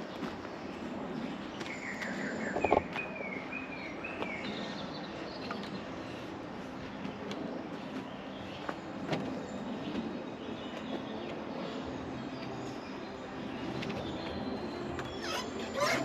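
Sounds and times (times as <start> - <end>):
birds chirping: 0.0 - 16.0
steady background noise: 0.0 - 16.0.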